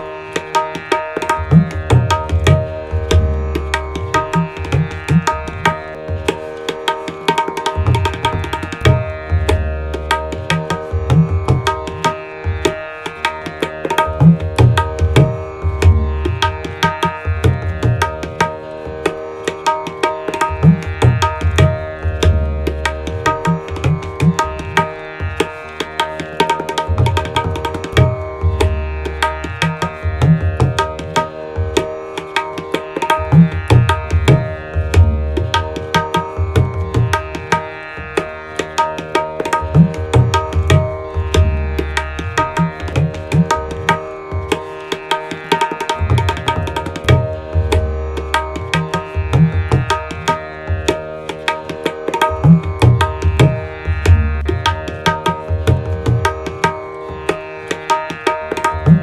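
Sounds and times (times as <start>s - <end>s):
tabla playing: 0.0s - 59.0s.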